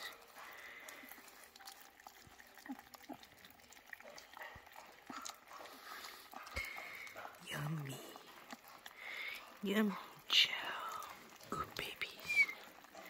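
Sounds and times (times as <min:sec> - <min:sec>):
puppies eating wet smacking: 0:00.0 - 0:13.0.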